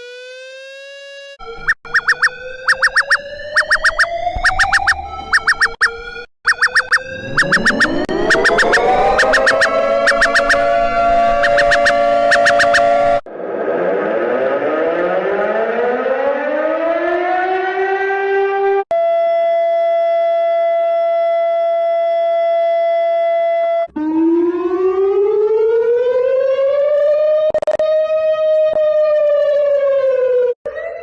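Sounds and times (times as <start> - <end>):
civil defense siren winding up: 0.0 - 31.0.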